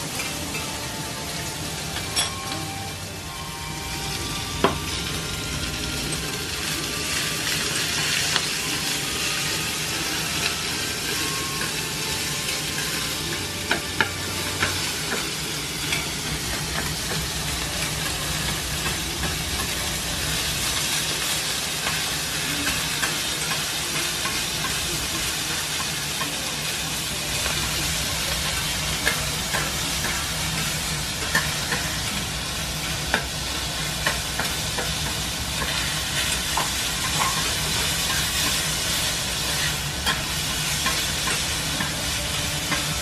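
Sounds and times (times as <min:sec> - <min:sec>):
vegetables sizzling on a griddle: 0:00.0 - 0:43.0.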